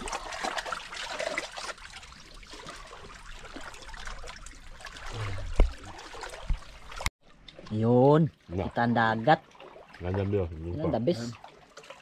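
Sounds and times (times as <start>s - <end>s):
water lapping against rocks: 0.0s - 12.0s.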